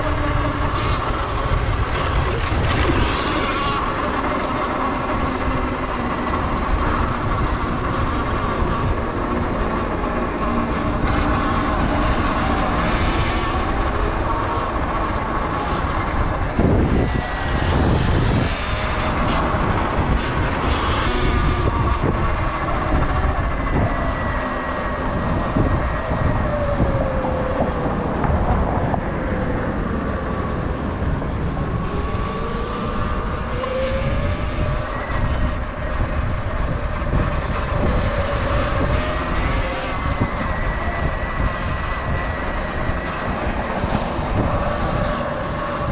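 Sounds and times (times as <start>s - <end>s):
electric motor whine: 0.0s - 45.9s
wind and tyre rumble: 0.0s - 45.9s.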